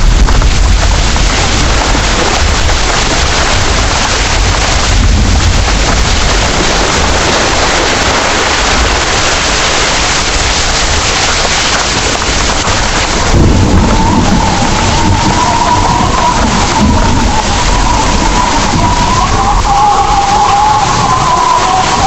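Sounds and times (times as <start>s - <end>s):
heavy rain pouring: 0.0s - 22.0s
thunder rumbling: 0.0s - 22.0s.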